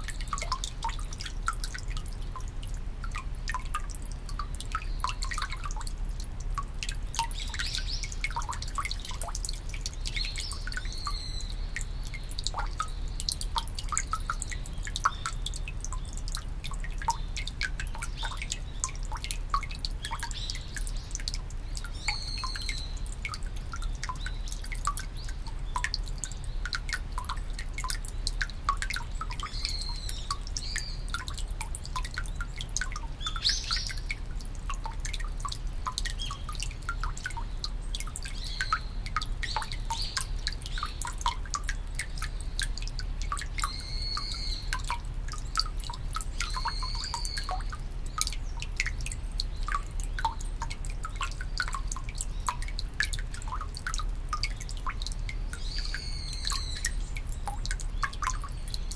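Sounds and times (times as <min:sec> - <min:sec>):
water trickling into stone basin: 0:00.0 - 0:58.9.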